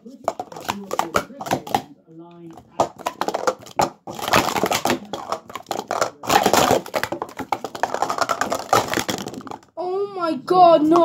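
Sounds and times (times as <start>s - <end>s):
plastic cups clattering: 0.0s - 9.8s.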